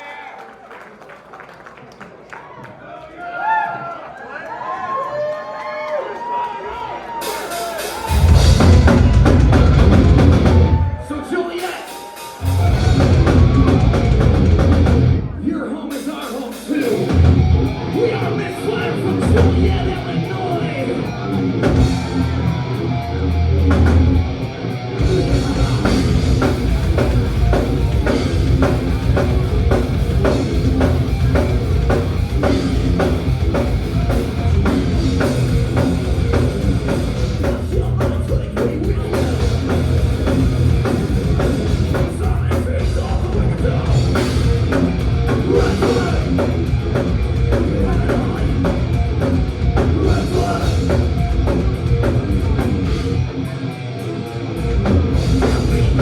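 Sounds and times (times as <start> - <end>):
metal band playing live: 7.2 - 56.0.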